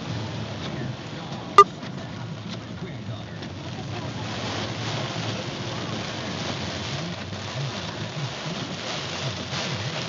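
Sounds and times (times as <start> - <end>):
heavy rain on car roof: 0.0 - 10.0.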